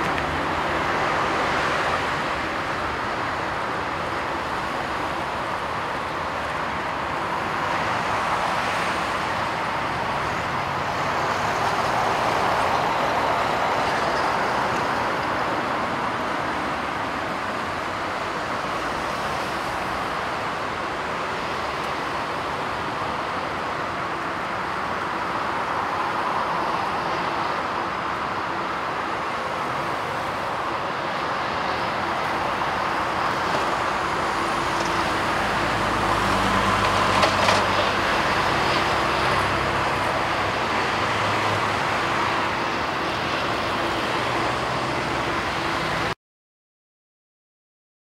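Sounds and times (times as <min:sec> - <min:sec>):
jet engines at takeoff: 0:00.0 - 0:46.2.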